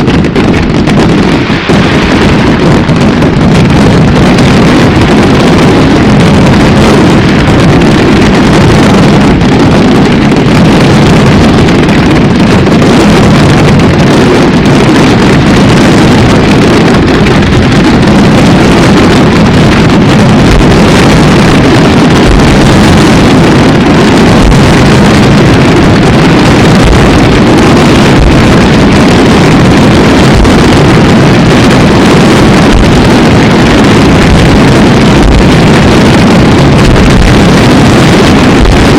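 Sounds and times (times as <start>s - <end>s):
fireworks barrage: 0.0s - 38.9s.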